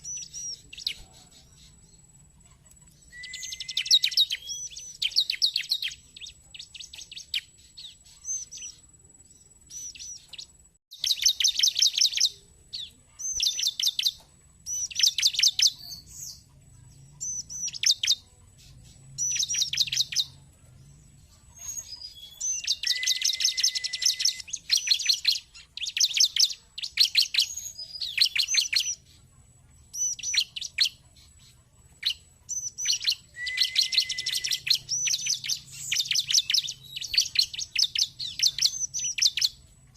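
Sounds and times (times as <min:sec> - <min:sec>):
bird rapid high rising chirps: 0:00.0 - 0:39.9.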